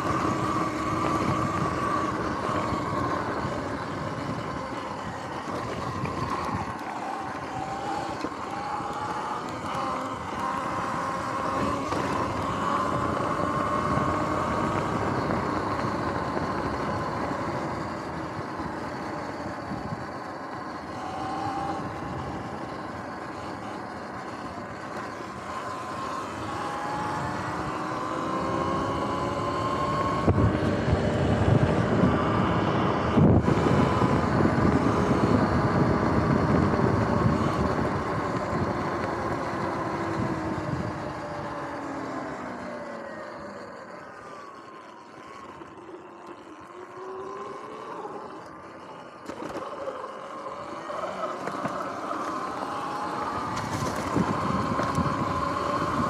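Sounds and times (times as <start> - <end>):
electric motor whine: 0.0 - 56.0
tyres rumbling: 0.0 - 56.0
wind: 0.0 - 56.0.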